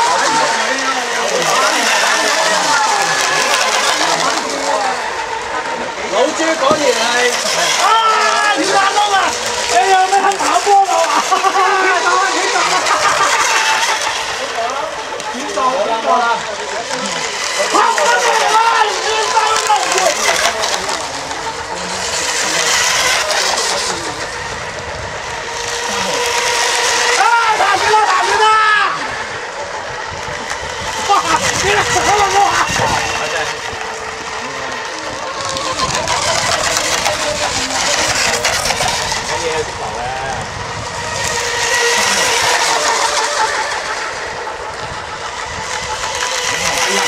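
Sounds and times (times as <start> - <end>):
model boat engines buzzing: 0.0 - 47.0.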